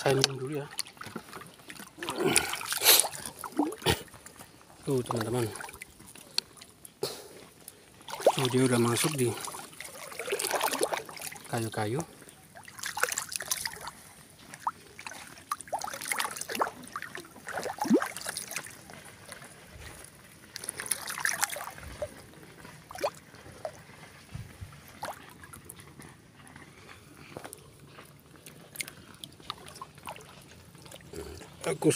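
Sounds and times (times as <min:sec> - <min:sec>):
water sloshing and splashing: 0:00.0 - 0:31.9.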